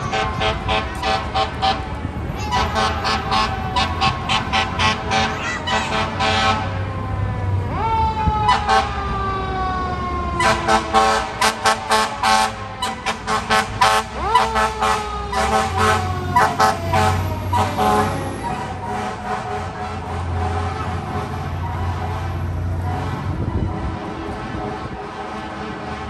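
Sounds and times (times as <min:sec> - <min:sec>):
fire truck siren wailing: 0:00.0 - 0:26.0
truck engine rumbling: 0:00.0 - 0:26.0.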